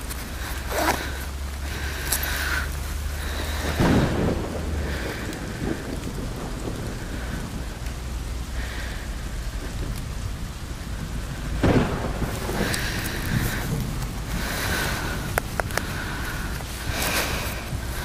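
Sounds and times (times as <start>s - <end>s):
low rumble: 0.0s - 18.0s
rain falling on vegetation: 0.0s - 18.0s.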